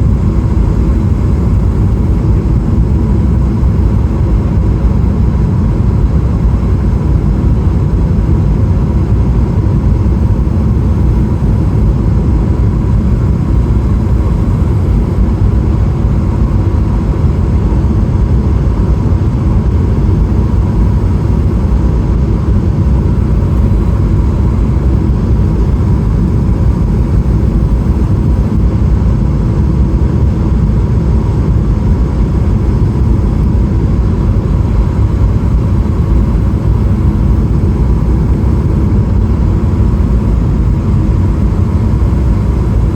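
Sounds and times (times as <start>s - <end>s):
airplane cabin engine rumble: 0.0s - 42.9s
faint steady whine: 0.0s - 42.9s.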